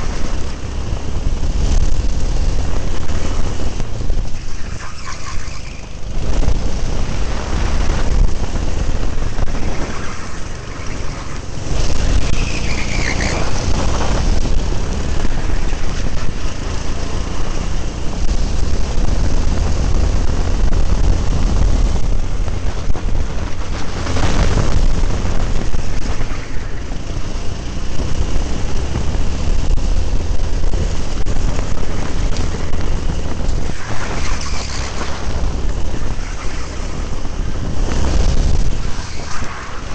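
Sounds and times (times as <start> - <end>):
kart engine racing: 0.0 - 39.9
wind buffeting microphone: 0.0 - 39.9.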